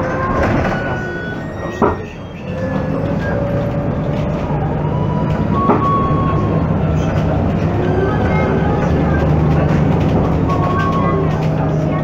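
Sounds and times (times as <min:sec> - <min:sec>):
bus diesel engine: 0:00.0 - 0:12.0.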